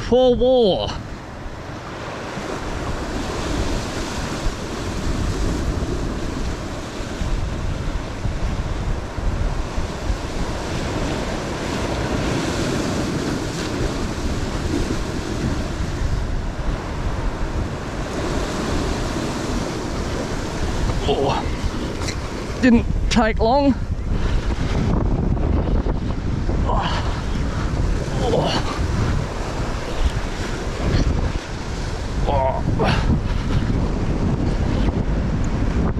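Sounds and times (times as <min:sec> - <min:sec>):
ocean surf washing against rocks: 0:00.0 - 0:35.9
wind rumbling on microphone: 0:00.0 - 0:35.9.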